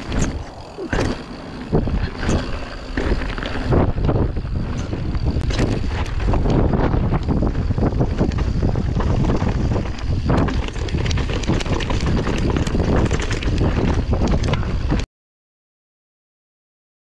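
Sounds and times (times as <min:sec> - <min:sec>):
mountain bike clattering: 0:00.0 - 0:15.0
wind buffeting microphone: 0:00.0 - 0:15.0.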